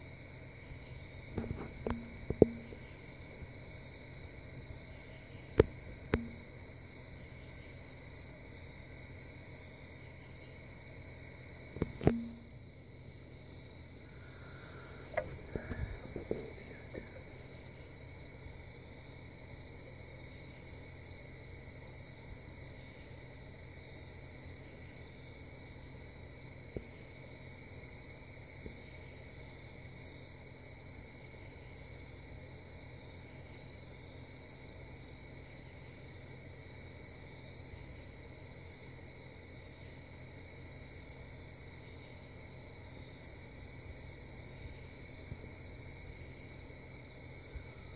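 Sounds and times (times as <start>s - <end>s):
night insects chorus: 0.0s - 47.9s.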